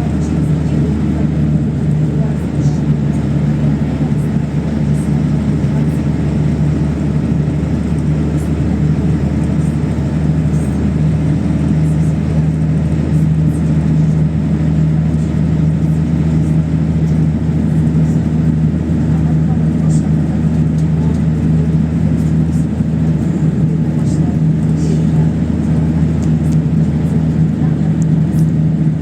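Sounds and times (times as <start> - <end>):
bus engine drone: 0.0 - 29.0
road noise: 0.0 - 29.0.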